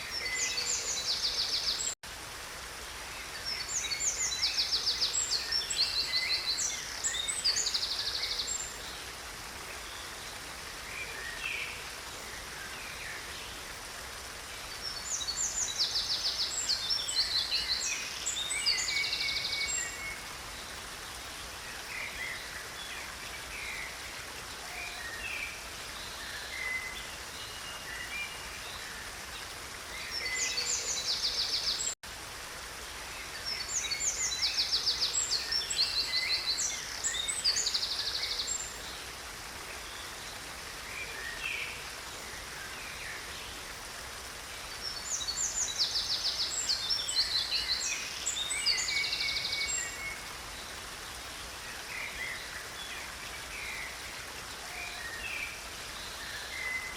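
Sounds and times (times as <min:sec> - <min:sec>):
stream running water: 0:00.0 - 0:56.9.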